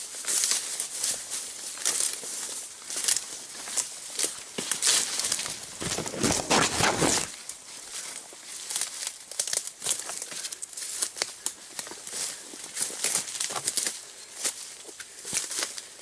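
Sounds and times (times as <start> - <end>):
footsteps through dry grass: 0.0 - 16.0.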